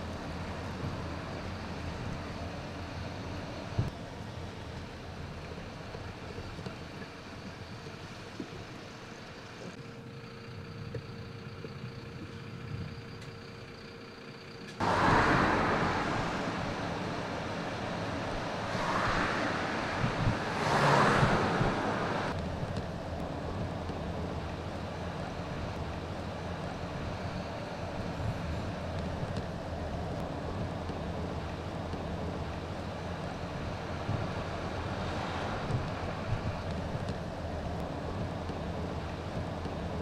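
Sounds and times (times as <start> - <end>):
road traffic rushing: 0.0 - 40.0
vehicles passing close by: 0.0 - 40.0.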